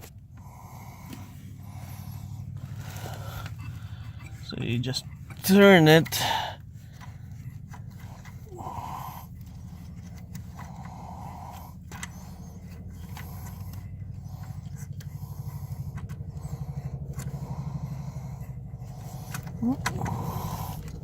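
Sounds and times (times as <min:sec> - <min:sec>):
low pulsing hum: 0:00.0 - 0:21.0.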